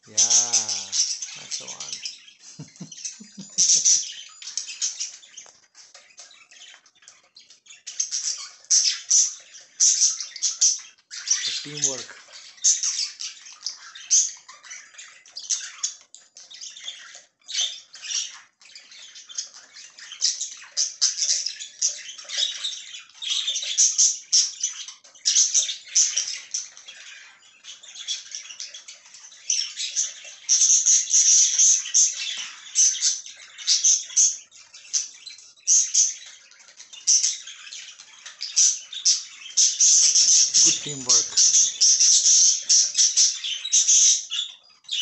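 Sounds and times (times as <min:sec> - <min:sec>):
budgerigars chattering and chirping: 0:00.0 - 0:45.0.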